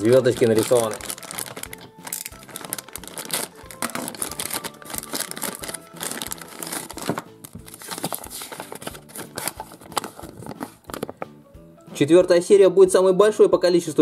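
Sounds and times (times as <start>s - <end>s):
plastic packet crinkling: 0.0s - 11.3s.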